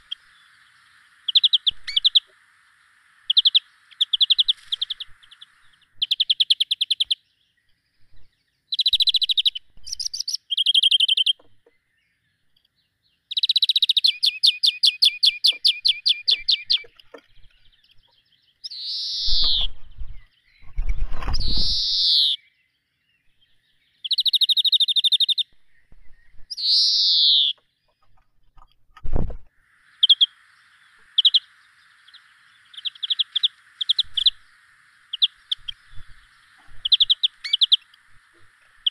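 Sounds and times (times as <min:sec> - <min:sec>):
birds chirping in trills: 0:00.0 - 0:28.8, 0:29.5 - 0:38.9.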